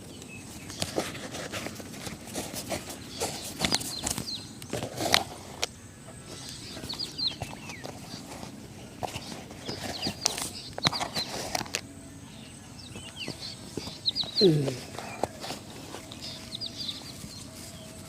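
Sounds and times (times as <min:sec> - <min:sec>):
shoe-shining taps and scrapes: 0:00.6 - 0:11.8, 0:12.9 - 0:17.8
falling bird chirps: 0:02.6 - 0:18.0.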